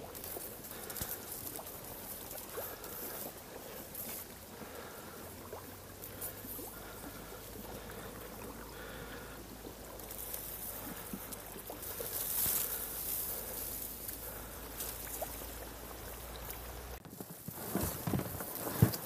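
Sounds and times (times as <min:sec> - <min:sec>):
steady low hum: 0:00.0 - 0:17.0
water sloshing and trickling: 0:00.0 - 0:19.0.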